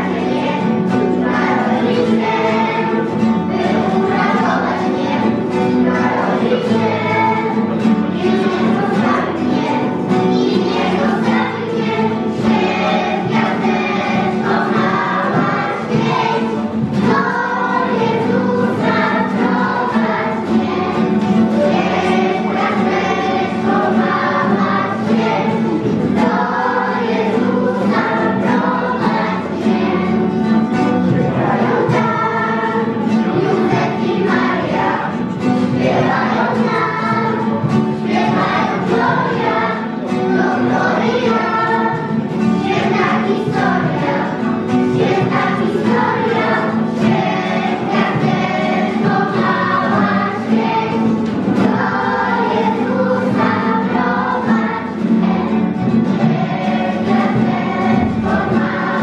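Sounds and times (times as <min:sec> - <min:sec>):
acoustic guitar: 0:00.0 - 0:59.0
children's choir singing a carol: 0:00.0 - 0:59.0.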